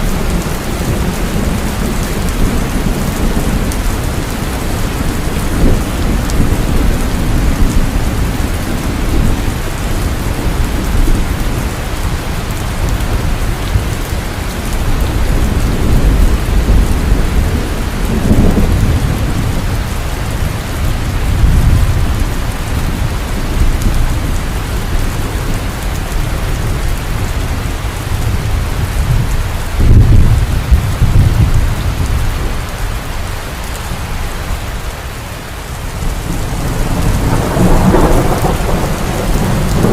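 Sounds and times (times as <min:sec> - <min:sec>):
thunder rumbling: 0:00.0 - 0:34.9, 0:35.7 - 0:39.9
heavy rain falling: 0:00.0 - 0:39.9.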